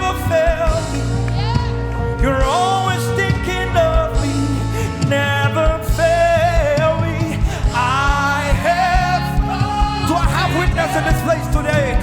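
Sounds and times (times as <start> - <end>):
voices singing held melody: 0.0 - 12.0
worship band playing: 0.0 - 12.0.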